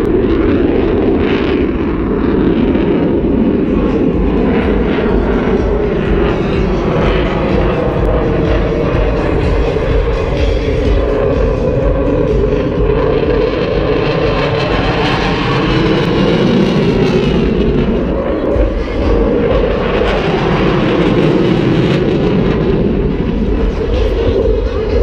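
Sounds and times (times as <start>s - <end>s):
jet engine roaring past: 0.0s - 25.0s.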